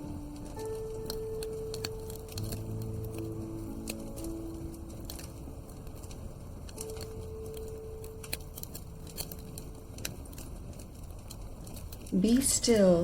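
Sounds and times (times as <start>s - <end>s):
steady fire hiss: 0.0s - 13.0s
wood fire crackling and popping: 0.0s - 13.0s.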